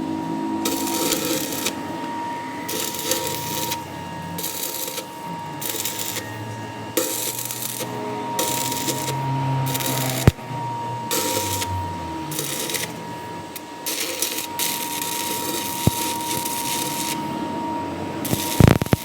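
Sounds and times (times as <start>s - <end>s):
hissing cutting noise: 0.0s - 19.0s
machine whine: 0.0s - 19.0s.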